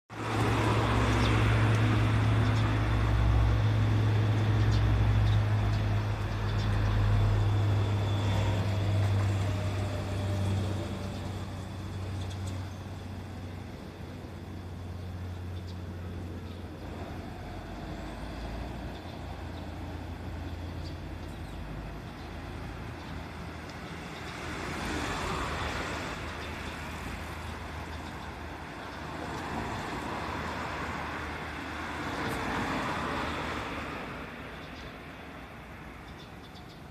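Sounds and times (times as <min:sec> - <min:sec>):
road vehicle engine hum: 0:00.1 - 0:36.9.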